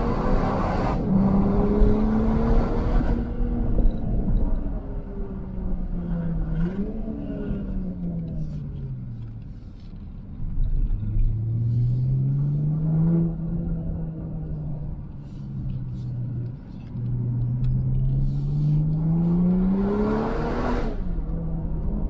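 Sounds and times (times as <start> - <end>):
car engine accelerating: 0.0 - 9.6, 10.5 - 22.0.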